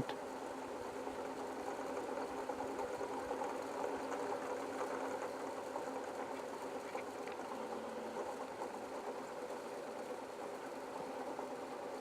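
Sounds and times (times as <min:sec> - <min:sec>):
wind turbines humming: 0:00.0 - 0:12.0.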